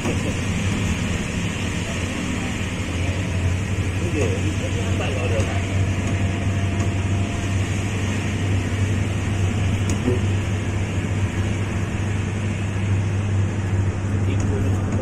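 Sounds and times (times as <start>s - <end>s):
bus engine hum: 0.0s - 15.0s
road noise: 0.0s - 15.0s.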